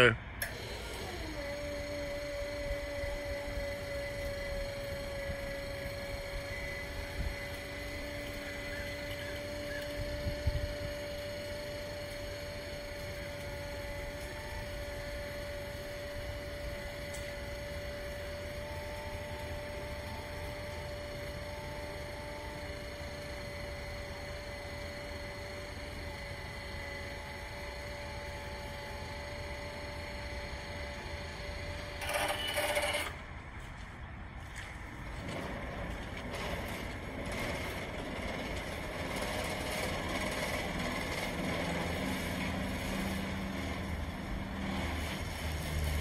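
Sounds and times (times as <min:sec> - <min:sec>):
hydraulic pump motor humming: 0:00.0 - 0:33.4, 0:35.1 - 0:46.0.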